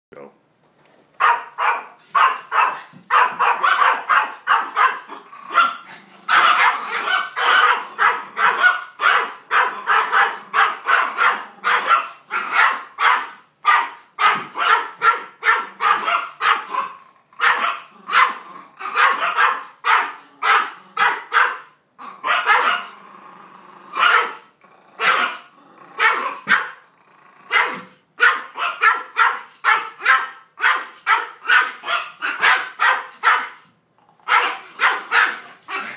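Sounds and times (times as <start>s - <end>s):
small dog barking sharply: 1.2s - 22.9s, 24.0s - 24.4s, 25.0s - 25.4s, 26.0s - 26.8s, 27.5s - 33.6s, 34.3s - 35.9s.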